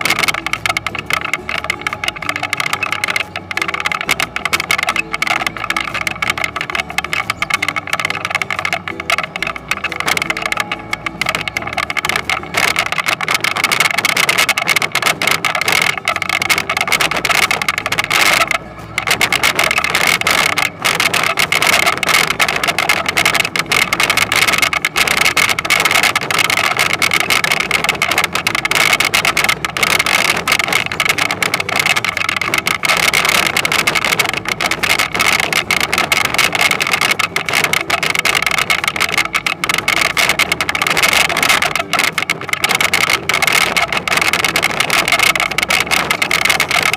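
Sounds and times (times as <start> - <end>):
mechanical clatter: 0.0 - 46.9.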